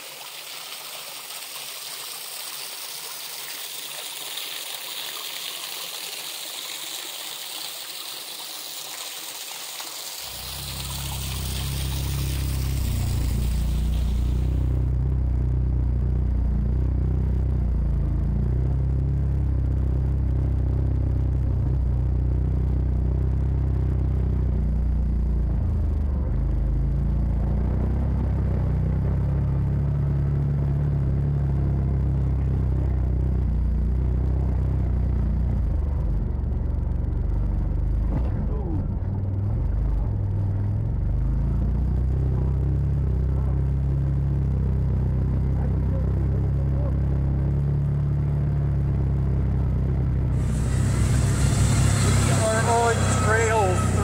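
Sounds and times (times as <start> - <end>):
utv engine drone: 10.1 - 54.0.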